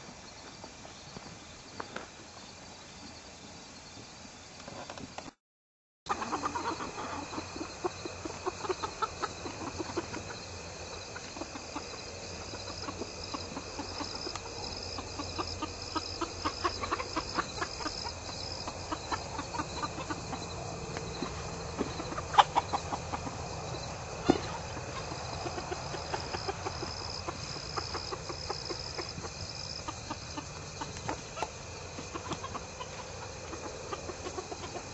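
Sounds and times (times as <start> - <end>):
chickens clucking: 6.1 - 34.9.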